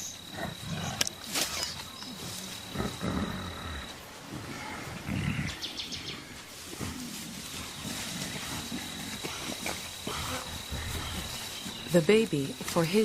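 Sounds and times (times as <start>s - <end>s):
rustling vegetation: 0.0s - 13.0s
gorillas grunting: 0.2s - 11.9s.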